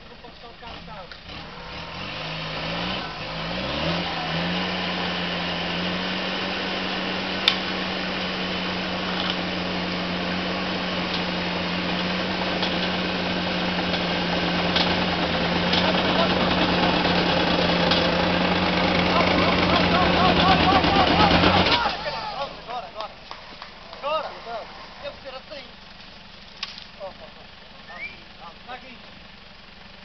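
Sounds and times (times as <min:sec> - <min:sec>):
vehicle engine revving: 0:00.0 - 0:30.0.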